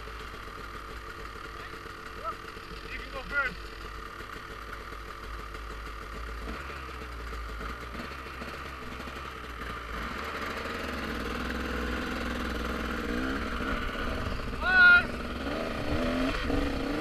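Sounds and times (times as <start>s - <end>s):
dirt bike engines idling: 0.0s - 17.0s.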